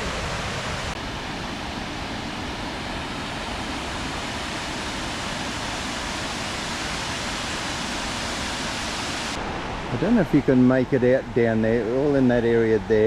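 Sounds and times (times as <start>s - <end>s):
waterfall rushing into pool: 0.0s - 12.9s.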